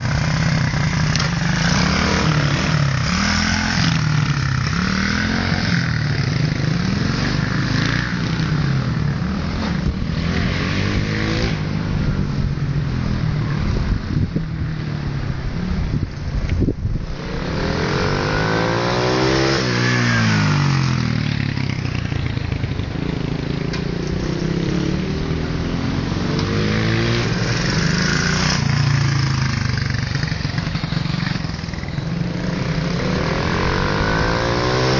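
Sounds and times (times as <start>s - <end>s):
motorcycle engines revving: 0.0s - 34.9s
motorcycle passing close: 0.0s - 34.9s.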